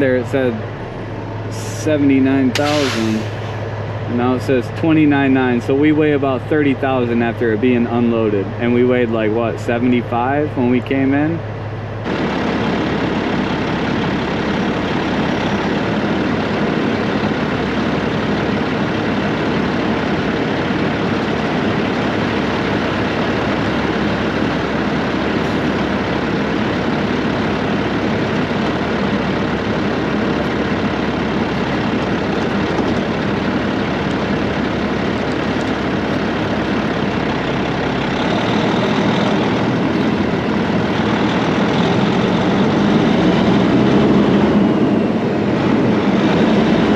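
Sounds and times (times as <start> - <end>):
diesel truck engine running: 0.0 - 46.9.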